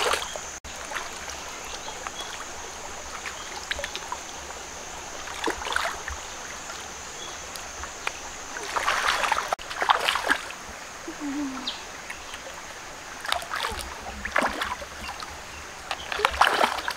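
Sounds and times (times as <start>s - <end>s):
stream water flowing: 0.0s - 16.9s
water splashing: 0.0s - 16.9s.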